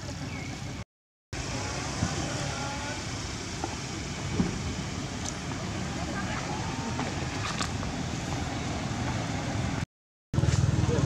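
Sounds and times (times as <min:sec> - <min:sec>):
road traffic rumble: 0:00.0 - 0:00.8, 0:01.4 - 0:11.0.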